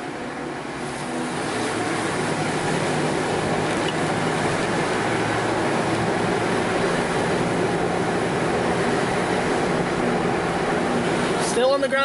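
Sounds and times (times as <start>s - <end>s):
truck engine hum: 0.0s - 12.0s
tyres hissing on wet road: 0.0s - 12.0s.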